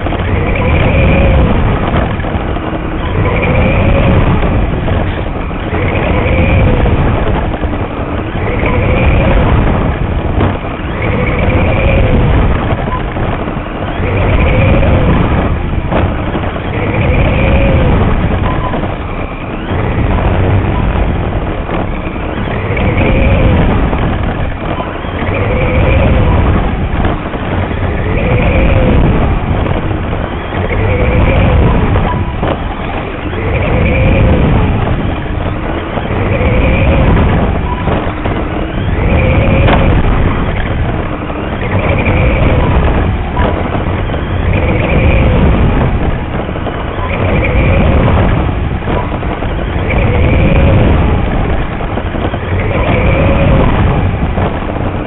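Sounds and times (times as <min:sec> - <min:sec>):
steady rumble: 0:00.0 - 0:55.0.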